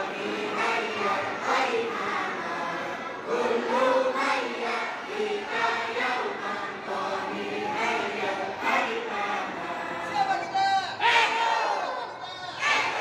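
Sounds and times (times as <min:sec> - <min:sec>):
crowd singing in unison: 0:00.0 - 0:13.0.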